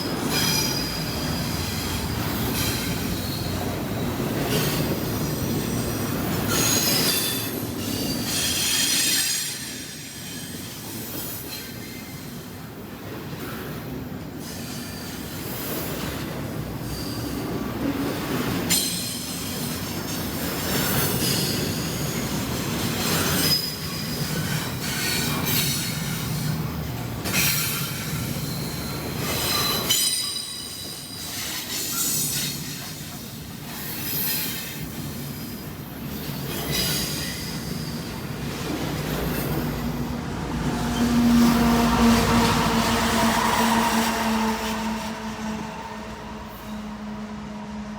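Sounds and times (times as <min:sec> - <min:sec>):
freight train cars rumbling: 0:00.0 - 0:47.9
wheels squealing on rails: 0:00.0 - 0:47.9.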